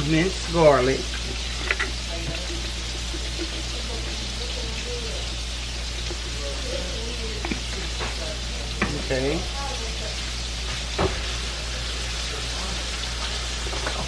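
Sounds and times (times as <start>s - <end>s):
meat and garlic sizzling in butter: 0.0s - 14.0s.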